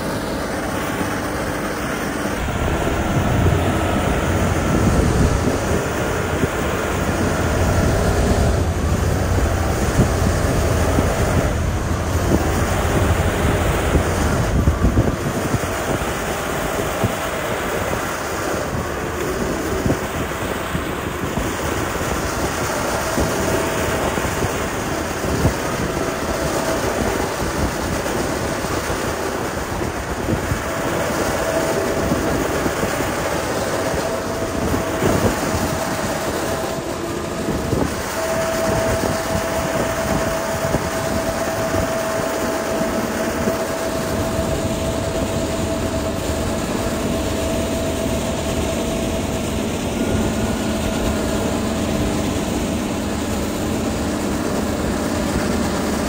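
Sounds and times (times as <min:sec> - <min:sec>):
diesel construction machinery running: 0:00.0 - 0:56.0.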